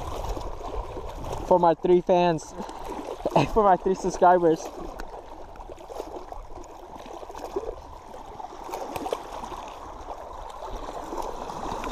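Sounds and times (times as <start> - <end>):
small water splashes: 0.0 - 11.9
small waves lapping against rocks: 0.0 - 11.9.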